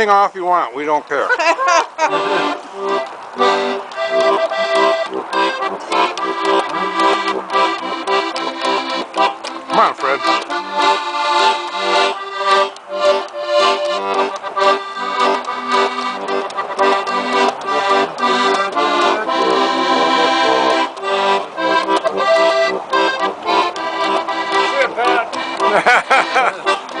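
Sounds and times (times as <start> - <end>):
button box accordion playing: 1.4 - 27.0.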